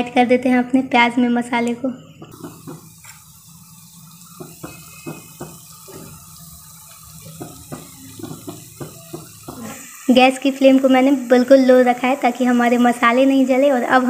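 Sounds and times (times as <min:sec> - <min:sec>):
onions sizzling in oil: 0:02.3 - 0:14.0
small crackles of frying: 0:02.3 - 0:14.0.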